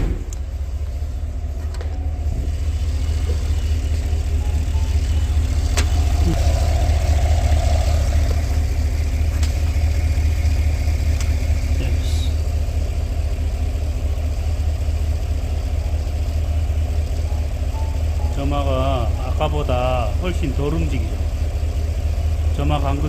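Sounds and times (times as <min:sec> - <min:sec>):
engine idling smoothly: 0:00.0 - 0:23.0.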